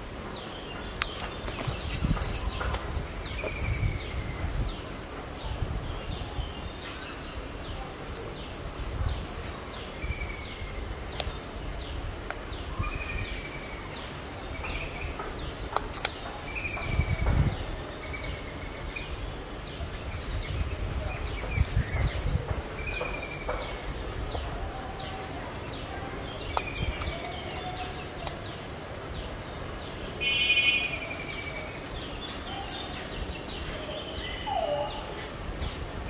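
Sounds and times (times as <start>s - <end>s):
birds chirping: 0.2s - 36.0s.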